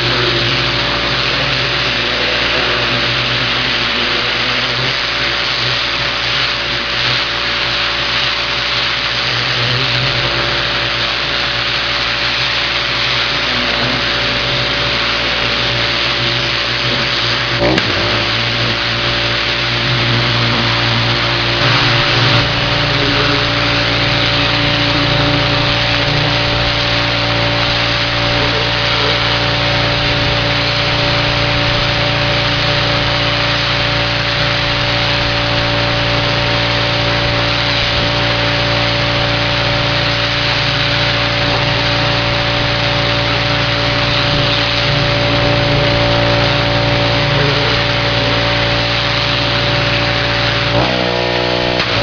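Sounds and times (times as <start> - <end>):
pressure washer engine running: 0.0 - 52.0
water jet hissing on siding: 0.0 - 52.0.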